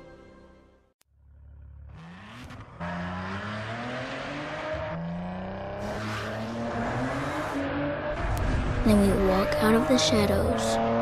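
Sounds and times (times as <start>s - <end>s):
car engine accelerating: 1.1s - 11.0s.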